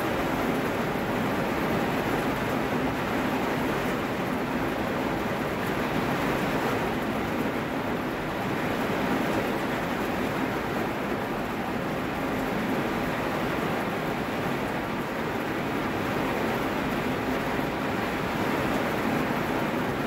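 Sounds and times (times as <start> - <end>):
heavy rain on a car: 0.0 - 20.0.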